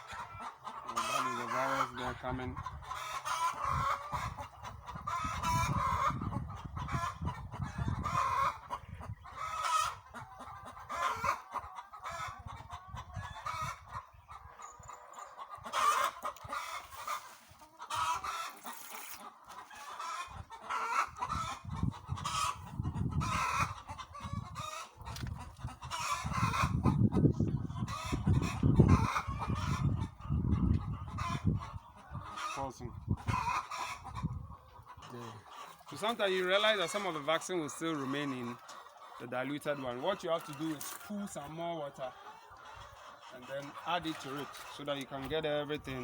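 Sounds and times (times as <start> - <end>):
hens clucking: 0.0 - 46.0.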